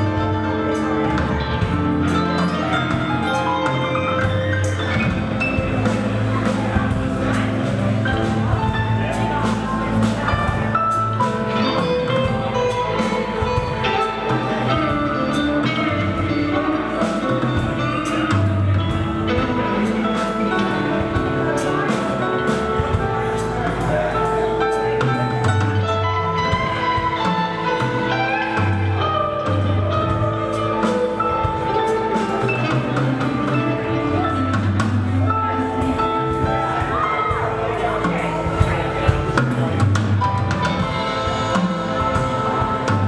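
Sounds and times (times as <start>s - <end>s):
bass line: 0.0s - 43.0s
electric guitar: 0.0s - 43.0s
keyboard: 0.0s - 43.0s.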